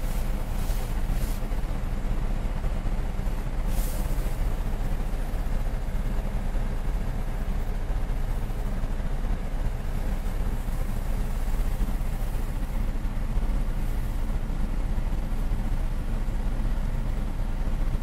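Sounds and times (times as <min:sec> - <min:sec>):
car engine rumble inside cabin: 0:00.0 - 0:18.0.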